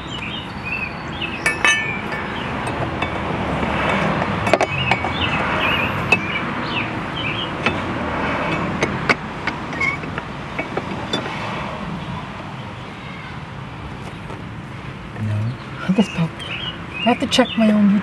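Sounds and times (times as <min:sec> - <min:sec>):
birds chirping: 0:00.0 - 0:08.0, 0:09.0 - 0:18.0
road vehicle passing: 0:00.0 - 0:18.0.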